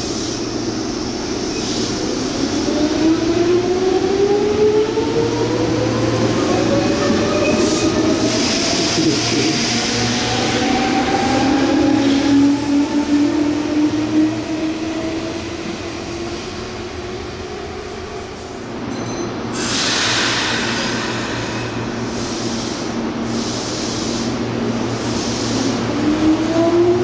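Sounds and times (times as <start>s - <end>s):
train cars rushing by: 5.3s - 27.0s.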